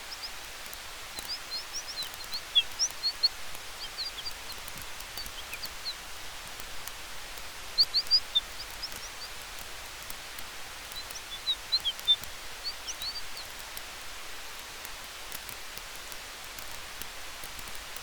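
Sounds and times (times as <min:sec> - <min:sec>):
campfire crackling: 0:00.0 - 0:18.0
soft hiss of wind and fire: 0:00.0 - 0:18.0.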